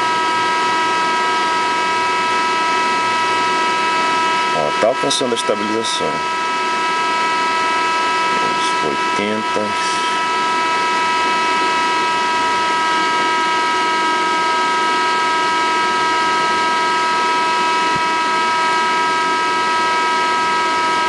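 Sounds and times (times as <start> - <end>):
electronic test tone: 0.0 - 21.0.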